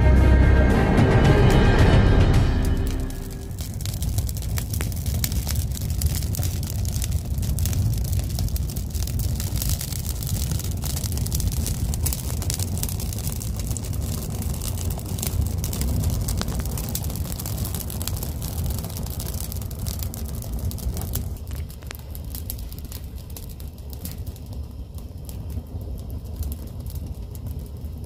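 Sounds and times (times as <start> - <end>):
fire low rumble: 0.0 - 28.0
fire crackling and popping: 2.6 - 28.0.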